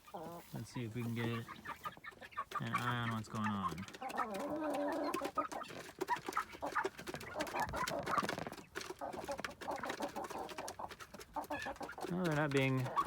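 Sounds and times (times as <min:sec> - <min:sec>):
chickens and chicks clucking: 0:00.0 - 0:13.0
chickens scuffling: 0:00.0 - 0:13.0.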